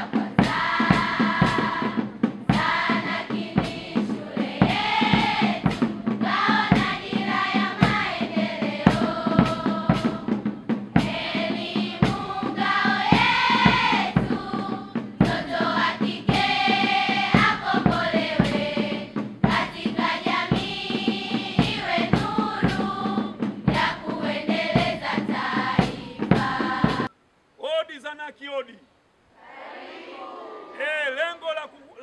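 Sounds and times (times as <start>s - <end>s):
girls singing in unison: 0.0s - 27.1s
sharp steady beats: 0.0s - 27.1s.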